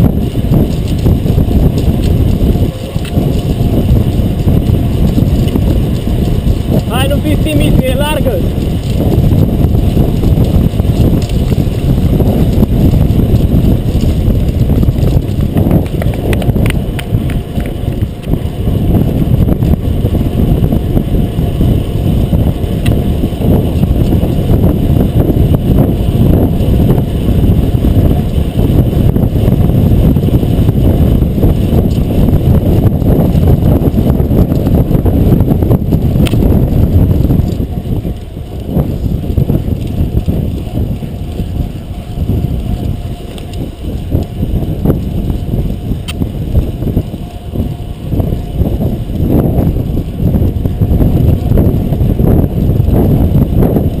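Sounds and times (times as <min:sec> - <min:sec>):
bicycle road and drivetrain noise: 0:00.0 - 0:54.0
wind buffeting microphone: 0:00.0 - 0:54.0.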